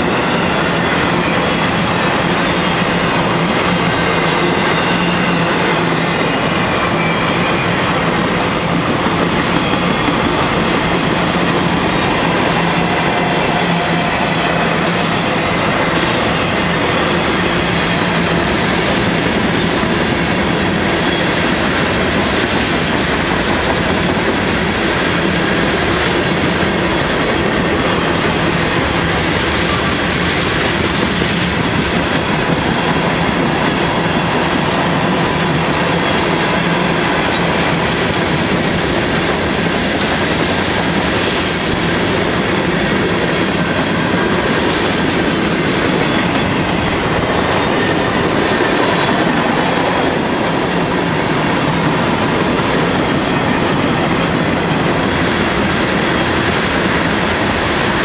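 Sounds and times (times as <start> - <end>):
train wheels clacking over rail joints: 0.0 - 58.0.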